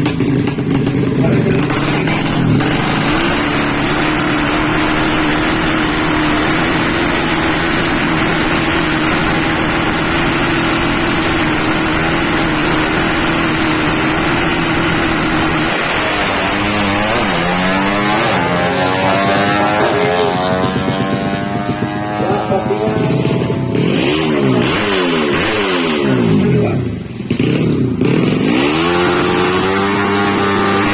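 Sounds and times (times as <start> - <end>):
motorcycle engine revving high: 0.0 - 30.9.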